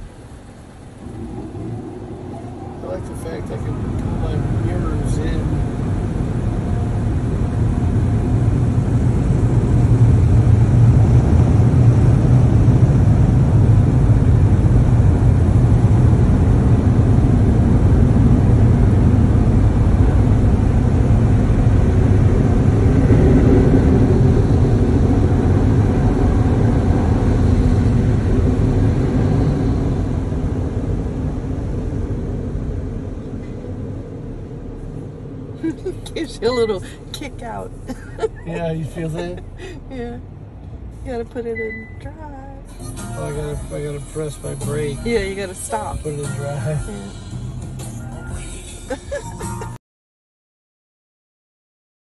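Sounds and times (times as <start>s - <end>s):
car wash air dryers blowing: 0.0s - 41.3s, 42.7s - 49.8s.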